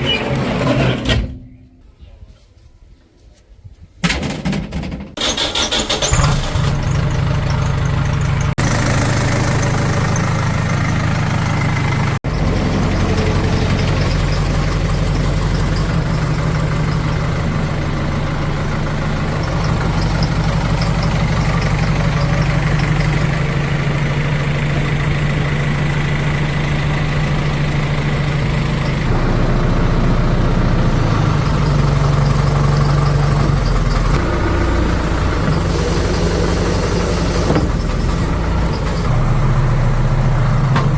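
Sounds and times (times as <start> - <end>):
diesel engine running steadily: 6.1 - 40.9.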